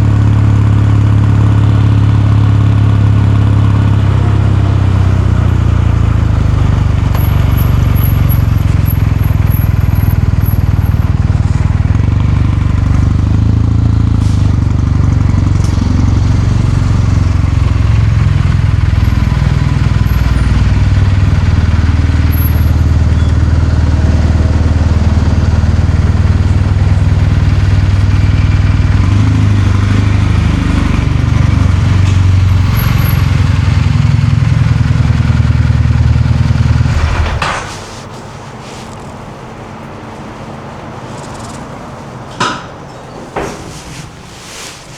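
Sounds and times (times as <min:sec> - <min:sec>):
motorcycle engine running: 0:00.0 - 0:42.3.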